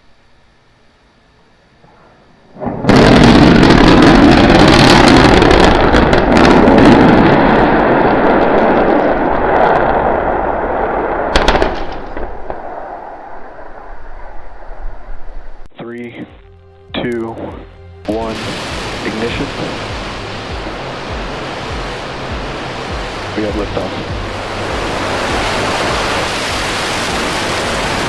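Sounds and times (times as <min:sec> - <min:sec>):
heavy rumble: 0:00.0 - 0:28.0
sharp crackle: 0:01.7 - 0:15.7, 0:18.1 - 0:28.0
loud explosion blast: 0:02.5 - 0:15.0, 0:18.0 - 0:28.0.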